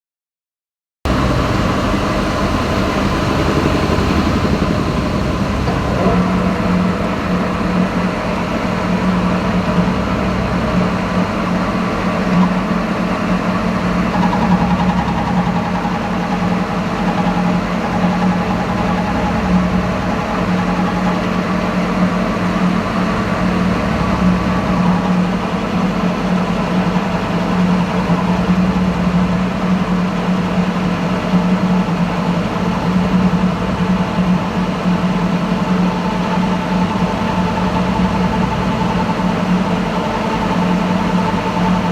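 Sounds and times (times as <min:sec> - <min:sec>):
lathe machine hum: 0:01.1 - 0:41.9.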